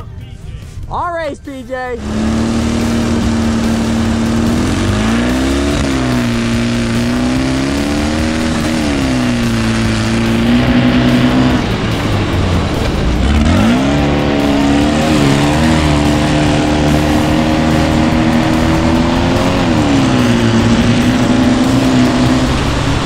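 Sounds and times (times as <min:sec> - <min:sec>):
wind noise: 0:00.7 - 0:23.0
racing engine revving: 0:01.9 - 0:23.0.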